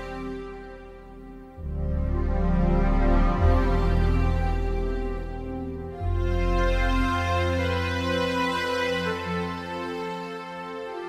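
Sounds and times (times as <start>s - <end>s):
soft slow instrumental music: 0.0s - 11.0s.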